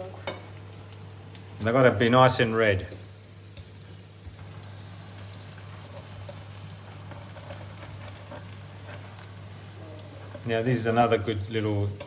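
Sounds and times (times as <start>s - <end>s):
fritters sizzling in oil: 0.0s - 12.0s.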